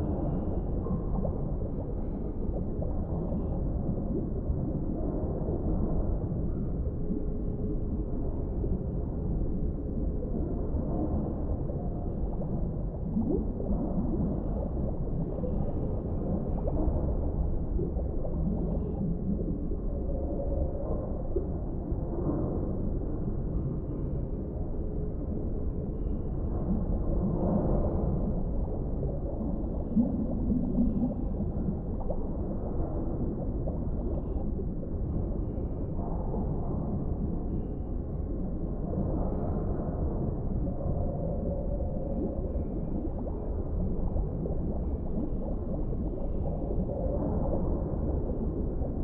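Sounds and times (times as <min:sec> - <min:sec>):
faint gurgling: 0:00.0 - 0:49.0
low underwater rumble: 0:00.0 - 0:49.0.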